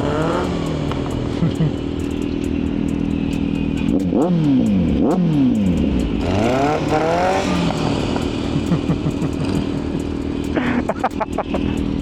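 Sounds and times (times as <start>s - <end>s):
engine accelerating: 0.0s - 12.0s
engine revving: 0.0s - 12.0s
vehicle engines idling: 0.0s - 12.0s.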